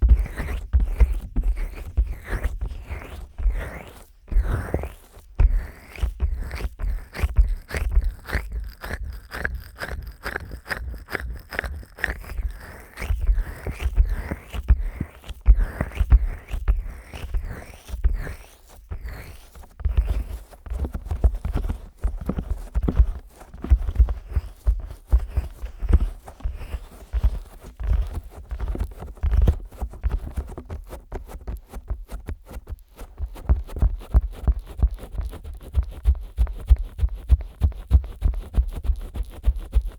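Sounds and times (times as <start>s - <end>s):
fingers rubbing microphone ears: 0.0s - 39.9s.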